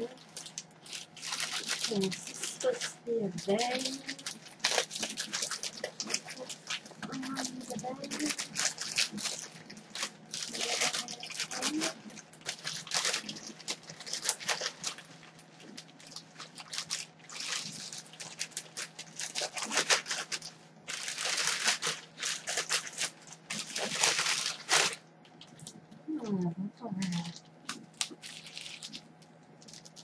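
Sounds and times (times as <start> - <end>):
packaging crinkling and rustling: 0.0 - 26.0, 27.0 - 30.0.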